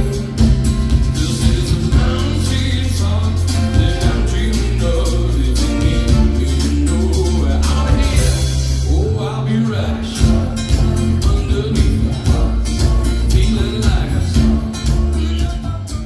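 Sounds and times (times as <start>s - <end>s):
live country band: 0.0s - 16.0s
man singing: 0.0s - 16.0s.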